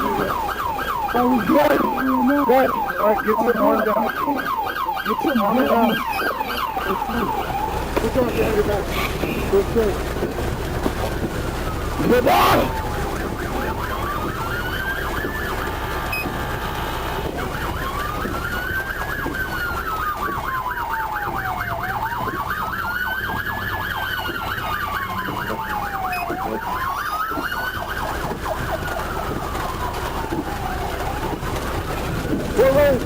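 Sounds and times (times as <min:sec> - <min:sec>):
fast warbling siren: 0:00.0 - 0:33.0
police siren wailing: 0:00.0 - 0:33.0
road and engine noise: 0:00.0 - 0:33.0.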